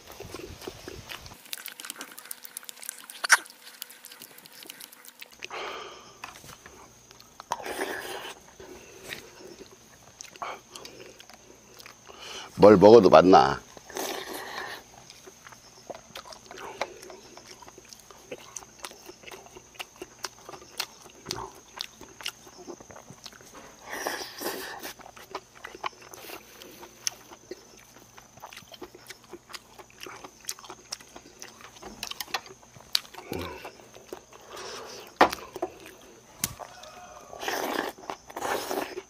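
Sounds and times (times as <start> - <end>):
slurping or crunching: 0.0 - 11.2, 13.8 - 15.3, 16.0 - 39.0
man chewing and smacking lips: 0.0 - 12.4, 13.6 - 39.0.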